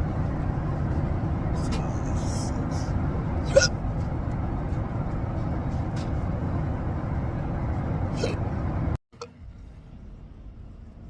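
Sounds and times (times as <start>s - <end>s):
moving vehicle rumbling: 0.0s - 11.0s.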